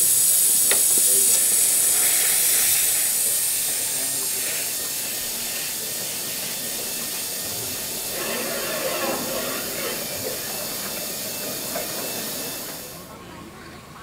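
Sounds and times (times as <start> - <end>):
steam locomotive hissing steam: 0.0 - 14.0.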